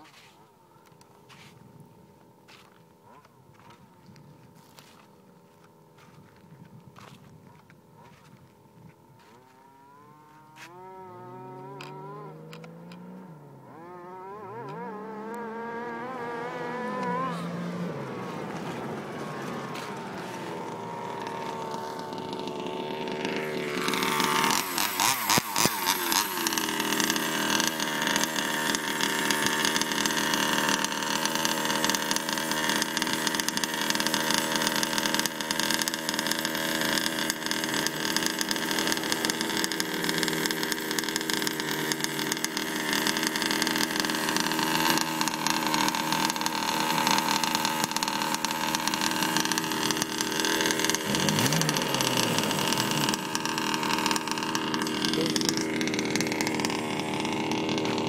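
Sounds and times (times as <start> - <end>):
engine running close by: 0.0 - 58.0
distant engine revving: 9.2 - 58.0.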